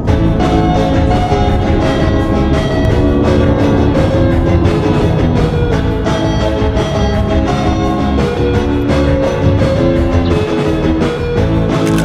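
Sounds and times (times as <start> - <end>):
band music with drums and guitar: 0.0 - 12.0.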